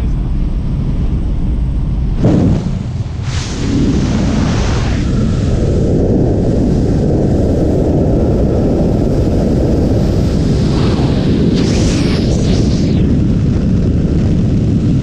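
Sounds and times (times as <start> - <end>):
wind blasting over microphone: 0.0 - 15.0.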